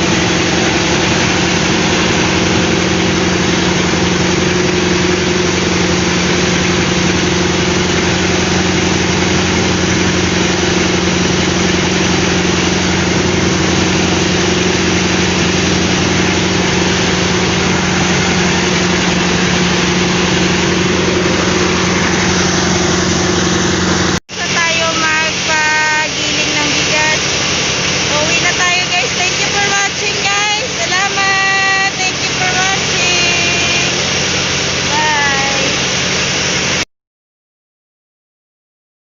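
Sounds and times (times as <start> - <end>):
rice milling machine drone: 0.0 - 36.9.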